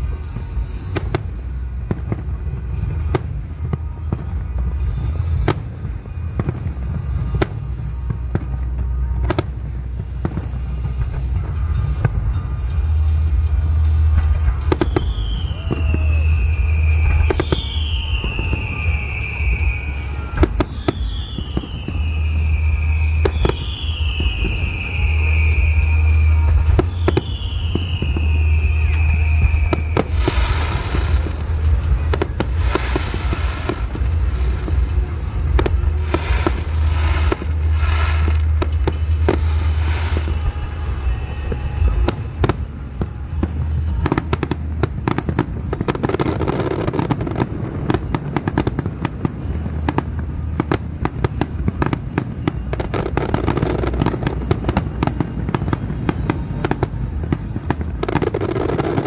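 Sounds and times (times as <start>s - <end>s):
fireworks crackling: 0.0s - 59.0s
music: 0.0s - 59.0s
firework shells bursting: 7.0s - 59.0s.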